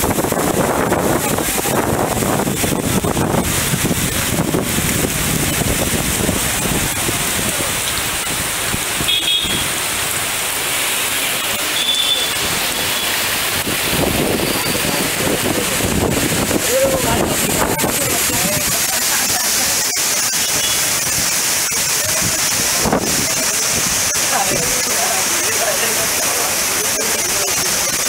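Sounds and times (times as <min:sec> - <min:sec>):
heavy rain on a street: 0:00.0 - 0:28.0.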